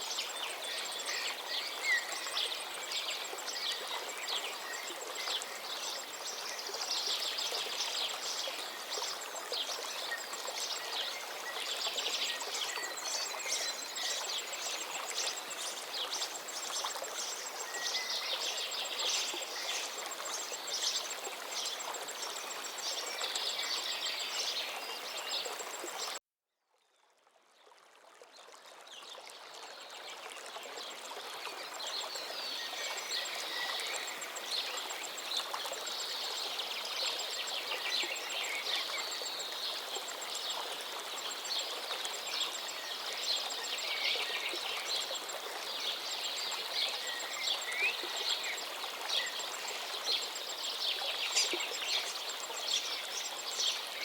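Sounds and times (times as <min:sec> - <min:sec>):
river flowing: 0:00.0 - 0:26.2, 0:27.6 - 0:54.0.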